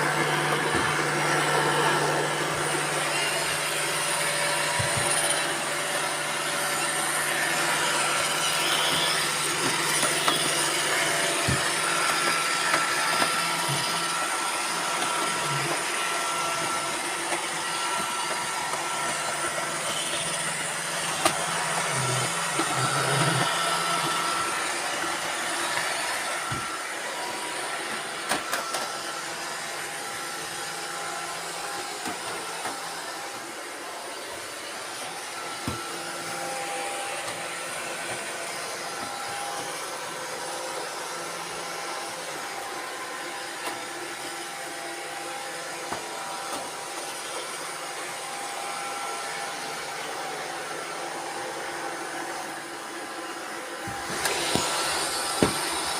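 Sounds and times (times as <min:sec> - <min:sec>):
robot vacuums whirring: 0:00.0 - 0:55.9.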